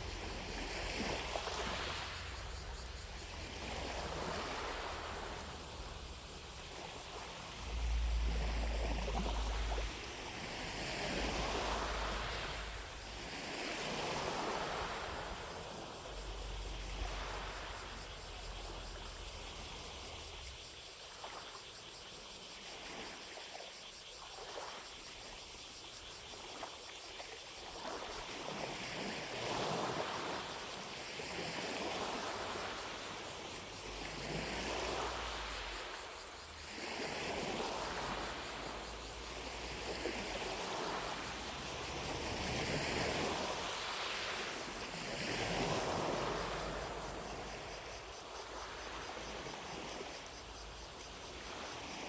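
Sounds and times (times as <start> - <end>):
lake waves lapping at shore: 0.0 - 25.4, 26.2 - 52.0
distant cicadas droning: 0.0 - 52.0.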